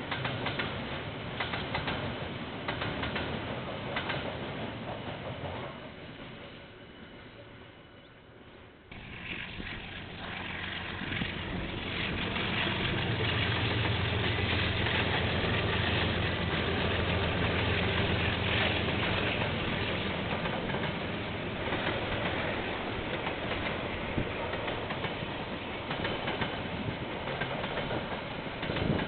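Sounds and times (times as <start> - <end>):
diesel locomotive engine humming: 0.0 - 29.0.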